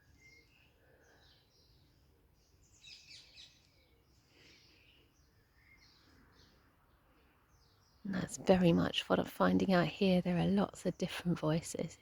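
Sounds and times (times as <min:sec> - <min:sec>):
faint birdsong chirping: 0:00.0 - 0:12.0.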